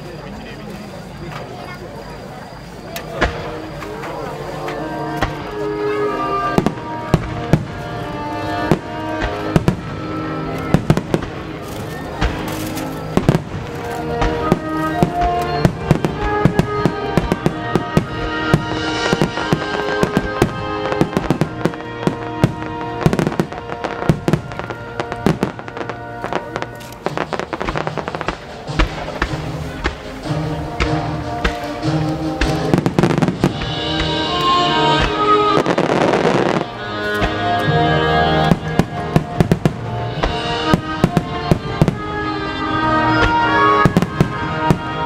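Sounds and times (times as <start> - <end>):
music playing: 2.7 - 45.0
fireworks bangs: 3.0 - 45.0.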